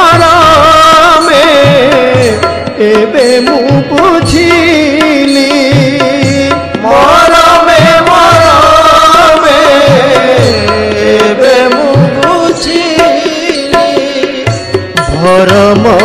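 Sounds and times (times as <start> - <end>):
instrumental melody: 0.0 - 16.0
person singing: 0.0 - 16.0.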